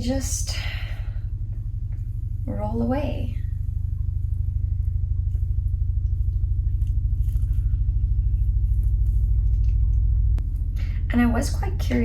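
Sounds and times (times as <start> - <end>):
low rumbling hum with flutter: 0.0 - 12.0.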